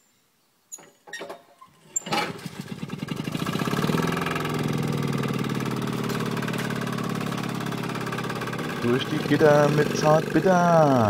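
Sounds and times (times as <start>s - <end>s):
tractor engine starting and idling: 1.6s - 11.0s.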